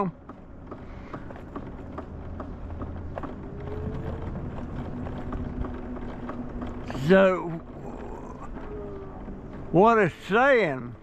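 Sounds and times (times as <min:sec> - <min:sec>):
vehicle rumble from inside cab: 0:00.1 - 0:11.0.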